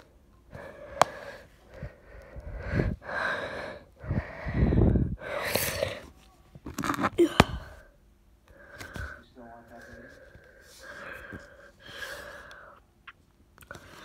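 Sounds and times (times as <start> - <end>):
person breathing hard and gasping: 0.5 - 6.1, 7.2 - 12.8.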